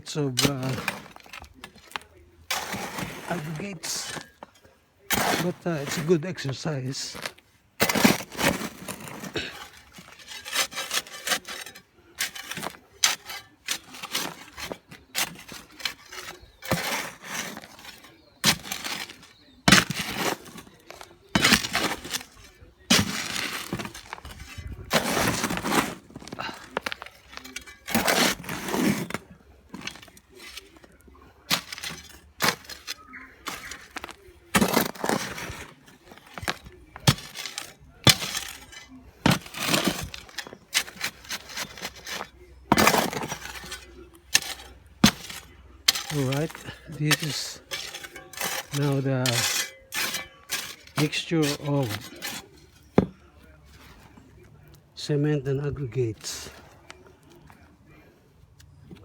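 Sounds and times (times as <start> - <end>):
gravel and cement scraping: 0.0 - 59.0.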